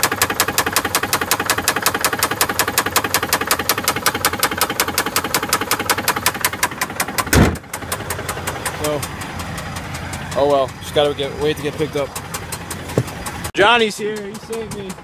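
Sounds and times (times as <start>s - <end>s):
engine idling with rapid knock: 0.0s - 15.0s.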